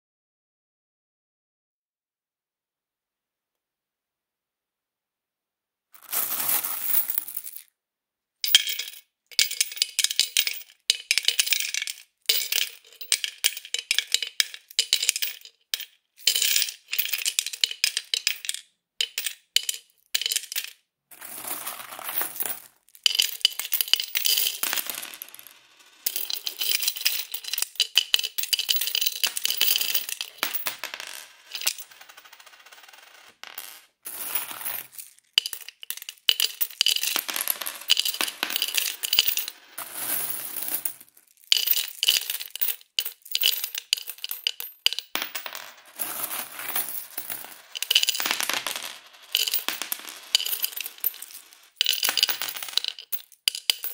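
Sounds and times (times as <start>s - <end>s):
coins clinking in piggy bank: 6.0s - 7.6s, 8.4s - 53.9s.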